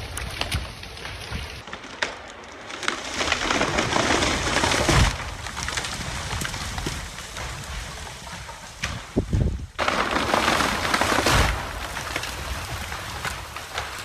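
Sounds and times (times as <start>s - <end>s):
rushing branches and leaves: 0.0s - 14.0s.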